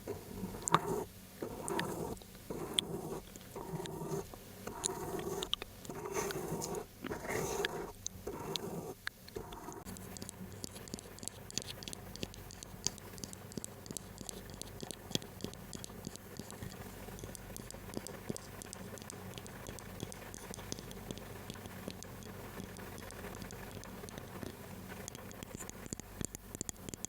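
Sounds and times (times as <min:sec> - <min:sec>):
fingernails tapping and scratching: 0:00.1 - 0:27.0.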